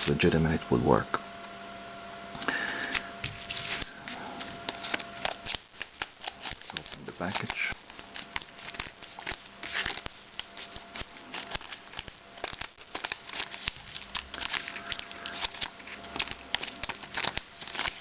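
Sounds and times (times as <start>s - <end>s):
plastic package crinkling: 3.4s - 18.0s.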